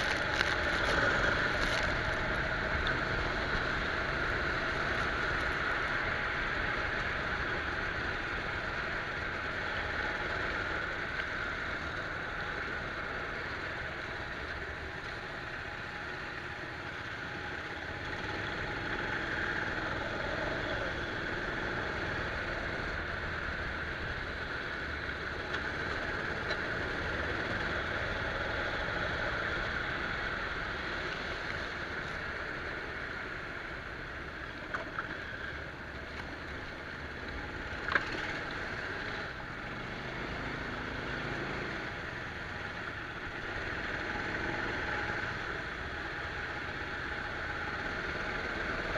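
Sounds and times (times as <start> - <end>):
go-kart engine running: 0.0 - 48.9.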